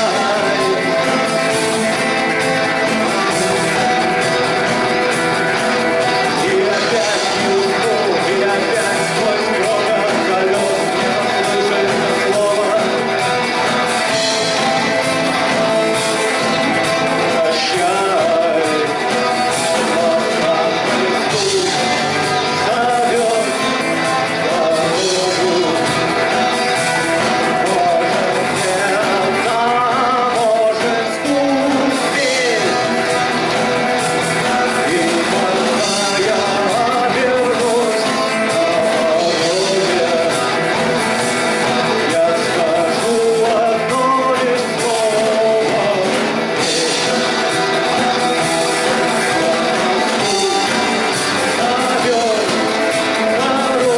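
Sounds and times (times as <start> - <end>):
pitch-bending lead guitar line: 0.0 - 53.9
rock band playing live: 0.0 - 53.9.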